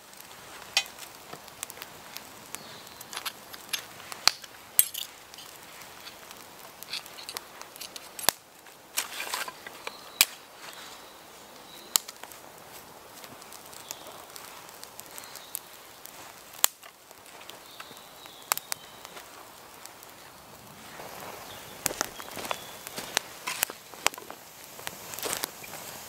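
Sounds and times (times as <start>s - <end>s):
campfire crackling and popping: 0.0s - 26.0s
sticks fed onto fire: 0.1s - 10.8s, 11.9s - 26.0s.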